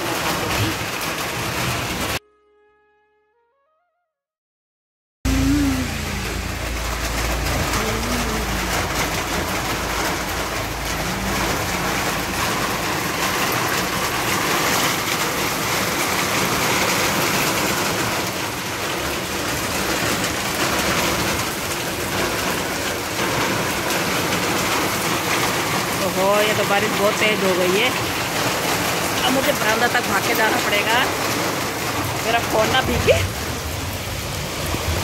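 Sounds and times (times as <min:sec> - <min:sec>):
heavy rain on tiles and roof: 0:00.0 - 0:02.2, 0:05.3 - 0:35.0.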